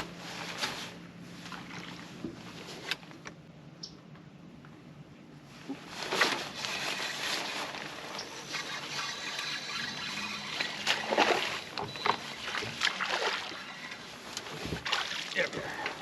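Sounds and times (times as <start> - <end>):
water splashing around boat: 0.0 - 3.2, 5.6 - 16.0.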